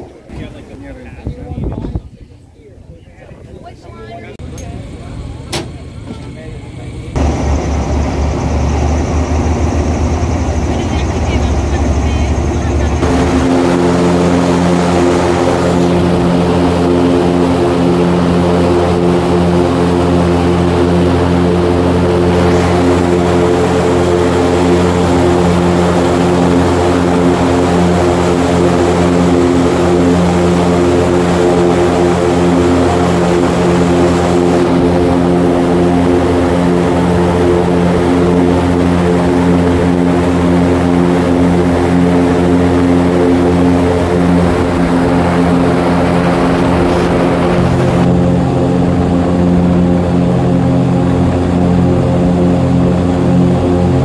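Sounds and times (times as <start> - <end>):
airboat engine drone: 0.0 - 54.0.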